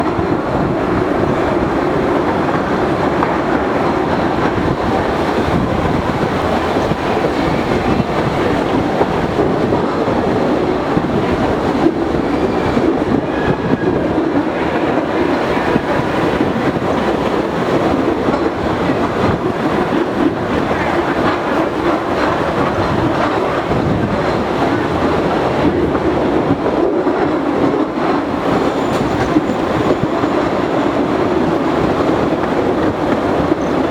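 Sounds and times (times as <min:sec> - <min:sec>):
train wheels on rails: 0:00.0 - 0:33.9.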